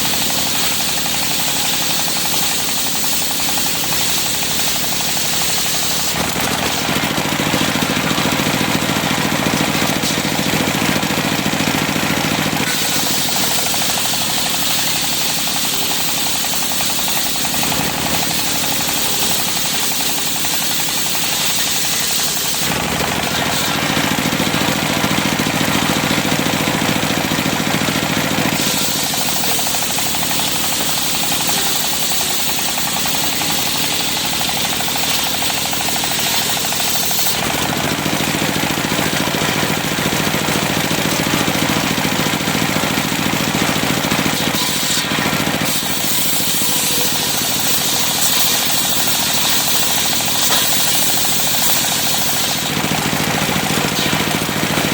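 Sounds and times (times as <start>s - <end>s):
circular sawmill sawing timber: 0.0s - 54.9s.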